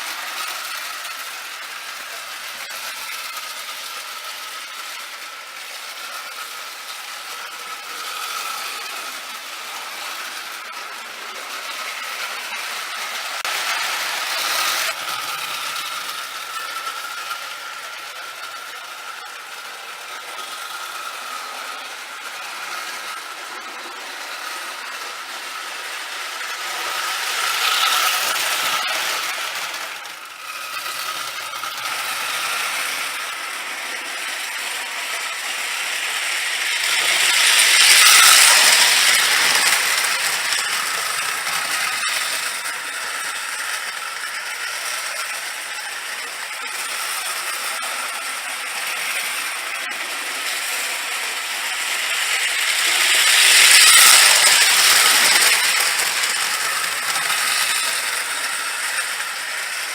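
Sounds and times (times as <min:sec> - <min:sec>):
toy train motor whirring: 0:00.0 - 0:59.9
wheels clattering on metal track: 0:00.0 - 0:59.9.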